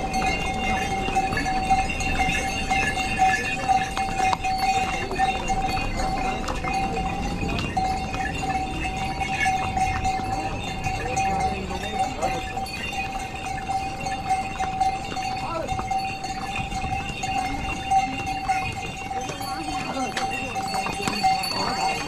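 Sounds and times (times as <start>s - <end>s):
faint voices: 0.0s - 22.0s
hooves clopping on stone: 0.0s - 22.0s.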